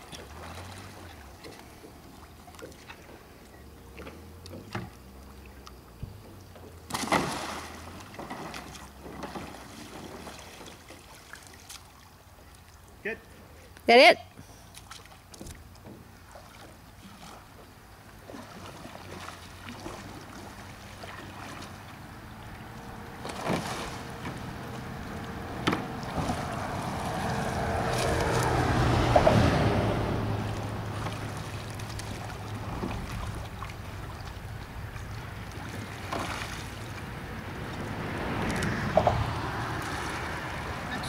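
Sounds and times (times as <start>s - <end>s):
water splashing and sloshing: 0.0s - 13.8s, 14.4s - 41.0s.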